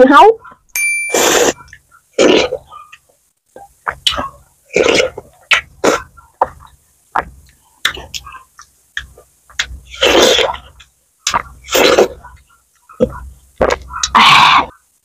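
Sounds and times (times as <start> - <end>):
woman chewing watermelon: 1.6 - 14.8.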